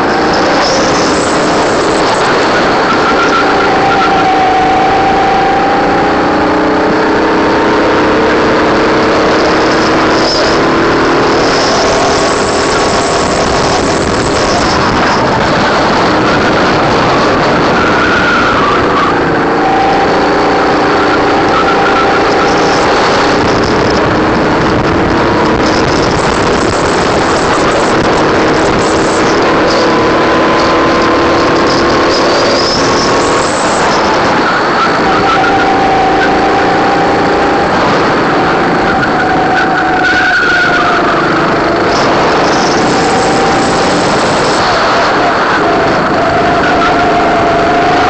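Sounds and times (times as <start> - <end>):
kart engine running hard: 0.0 - 48.0
wind noise on microphone: 0.0 - 48.0.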